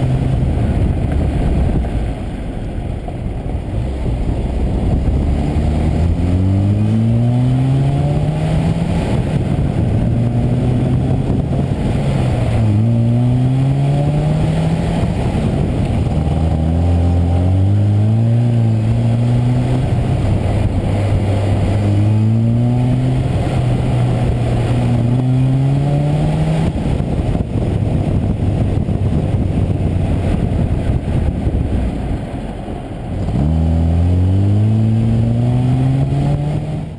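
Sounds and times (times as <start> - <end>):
car engine accelerating: 0.0 - 36.9
road and wind noise: 0.0 - 36.9.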